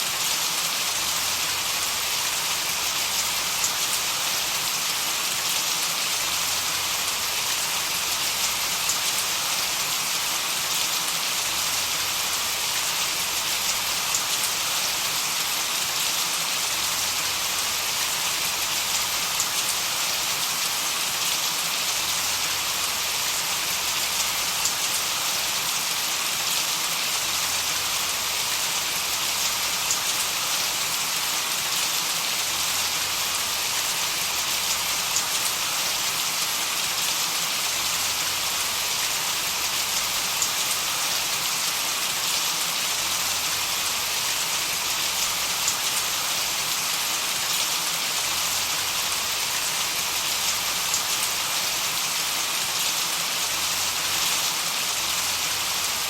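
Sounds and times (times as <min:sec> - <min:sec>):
rain-like hiss: 0:00.0 - 0:56.0.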